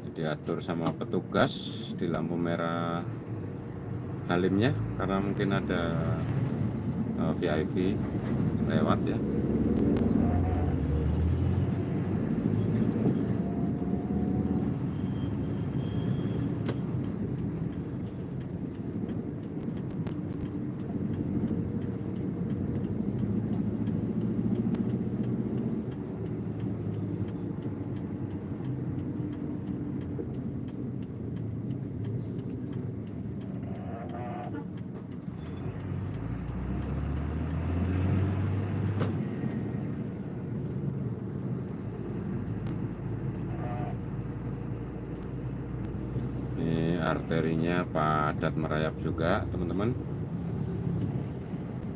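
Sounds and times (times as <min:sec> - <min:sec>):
traffic engines rumbling: 0:00.0 - 0:51.9.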